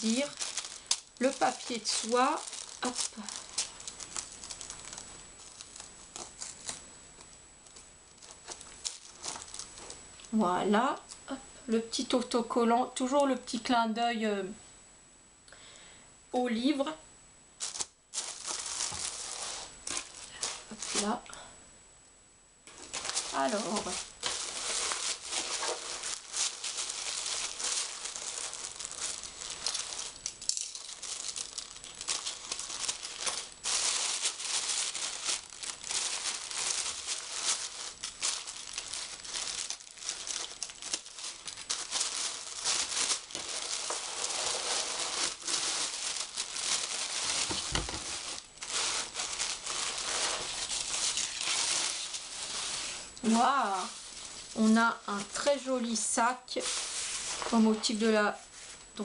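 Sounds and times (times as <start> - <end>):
wrapping crinkling and rustling: 0.0 - 11.2, 17.6 - 21.5, 22.7 - 59.0.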